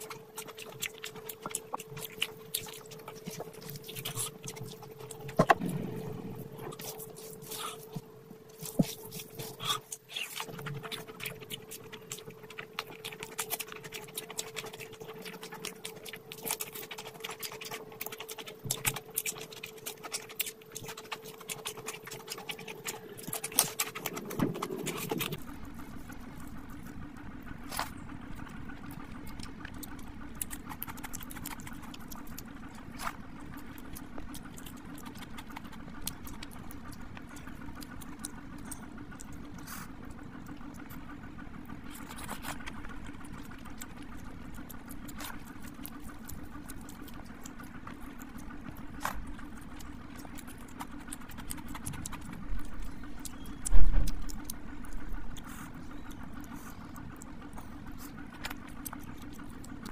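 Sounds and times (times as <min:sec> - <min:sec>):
fingers squishing through rice: 0:00.0 - 0:59.9
low hum: 0:00.0 - 0:59.9
wet chewing and lip smacking: 0:00.0 - 0:59.9.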